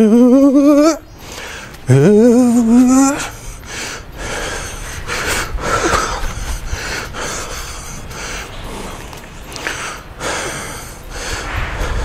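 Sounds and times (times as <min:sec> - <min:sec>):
hard noisy breaths: 0:01.0 - 0:12.0.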